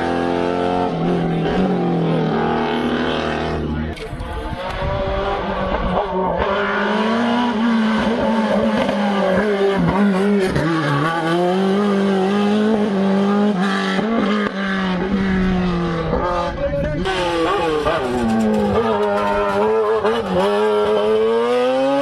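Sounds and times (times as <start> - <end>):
race car engine at high revs: 0.0 - 22.0.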